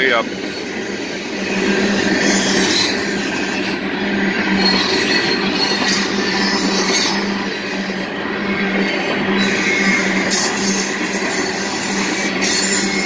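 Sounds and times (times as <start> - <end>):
freight train wheels rolling: 0.0 - 13.0.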